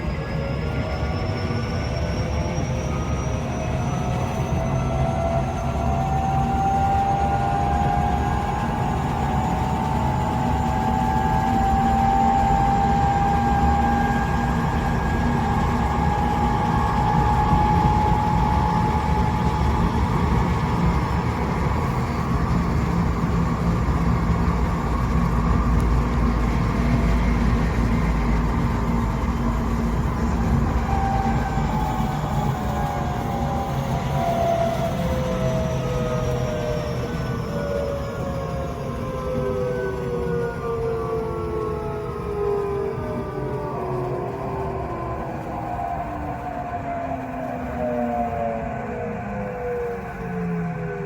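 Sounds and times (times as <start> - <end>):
train wheels rumbling on rail: 0.0 - 51.0
whining gear tones: 0.0 - 51.0.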